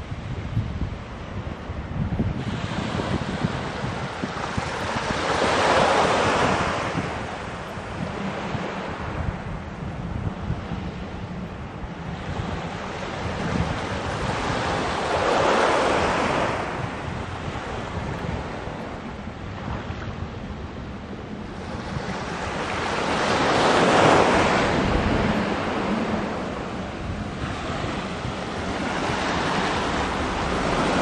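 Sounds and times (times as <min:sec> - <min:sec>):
waves washing onto shore: 0:00.0 - 0:31.0
wind rumble on microphone: 0:00.0 - 0:31.0.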